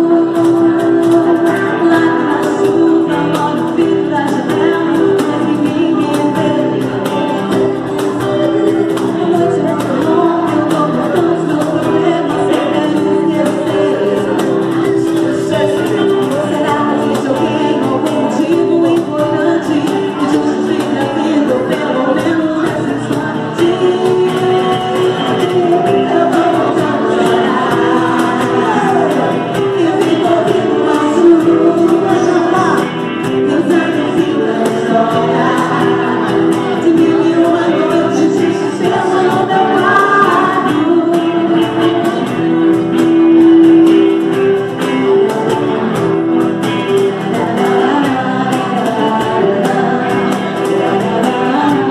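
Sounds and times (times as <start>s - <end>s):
electric guitar: 0.0s - 51.9s
keyboard: 0.0s - 51.9s
live band playing: 0.0s - 51.9s
person singing lead vocals: 0.0s - 51.9s
steady beat: 0.2s - 51.9s.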